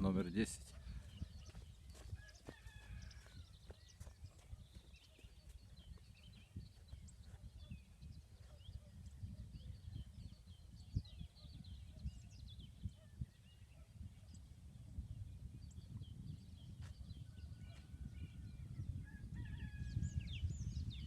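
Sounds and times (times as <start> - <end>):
birds chirping and singing: 0.0 - 21.0
wind rumble on microphone: 0.0 - 21.0.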